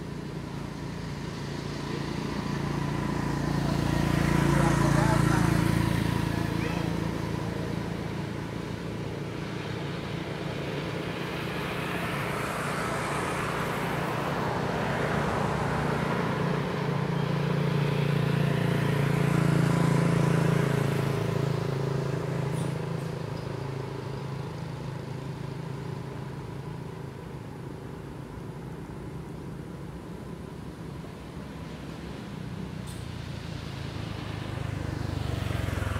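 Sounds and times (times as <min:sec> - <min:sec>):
vehicle engine passing by: 0:00.0 - 0:26.0, 0:31.7 - 0:35.9.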